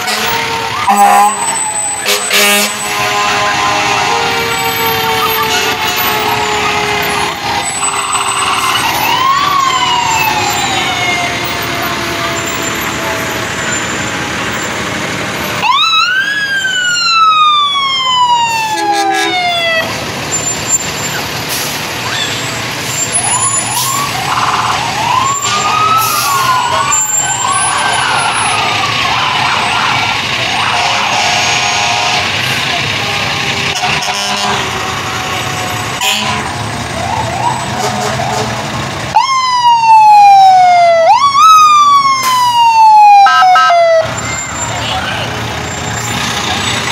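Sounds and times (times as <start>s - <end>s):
siren chirps: 0.0s - 14.8s, 15.4s - 21.3s, 22.0s - 32.3s, 37.0s - 38.5s, 39.1s - 45.0s
fire engine sirens wailing: 0.0s - 46.9s
trucks rumbling past: 0.0s - 46.9s.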